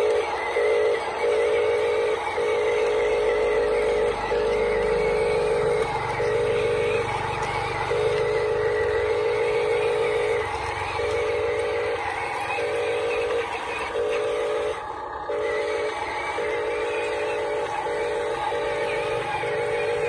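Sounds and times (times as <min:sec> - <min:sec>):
steady buzzing tone: 0:00.0 - 0:20.0
toy truck rolling over concrete: 0:00.0 - 0:20.0.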